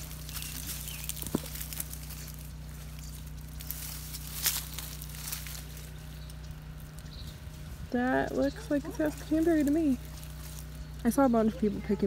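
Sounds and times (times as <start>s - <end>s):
leaves and twigs rustling: 0.0s - 12.0s
low steady hum: 0.0s - 12.0s.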